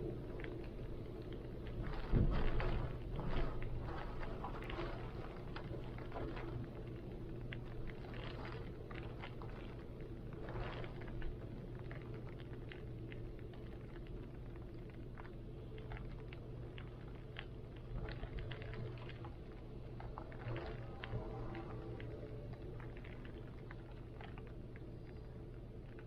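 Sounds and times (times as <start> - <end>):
raindrops pattering: 0.0 - 26.0.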